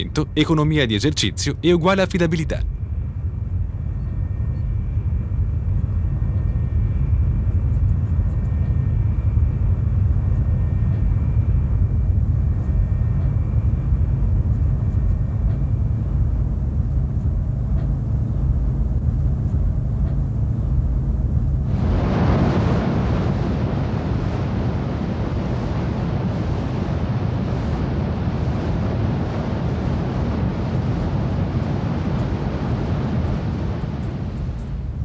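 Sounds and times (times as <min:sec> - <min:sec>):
distant aircraft rumble: 0:00.0 - 0:35.0
faint high whine: 0:00.0 - 0:35.0.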